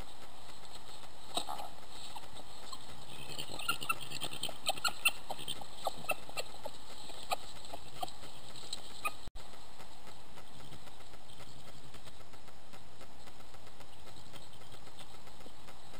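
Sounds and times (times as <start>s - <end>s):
animals scuffling over dry leaves: 0.0s - 15.9s
microphone hiss: 0.0s - 15.9s.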